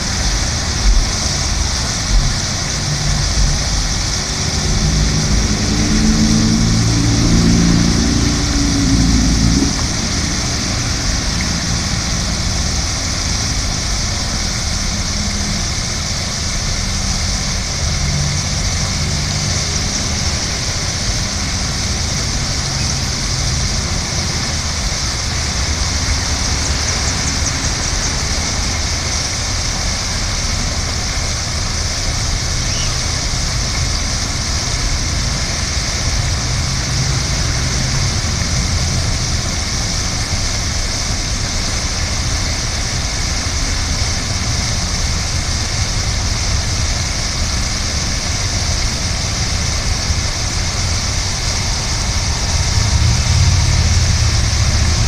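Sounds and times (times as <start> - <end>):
fountain water splashing: 0.0 - 55.0
low hum: 0.0 - 55.0.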